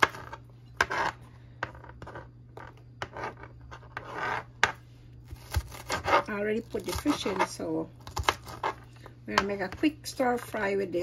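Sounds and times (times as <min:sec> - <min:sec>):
hand scraping pepper on cutting board: 0:00.0 - 0:10.6.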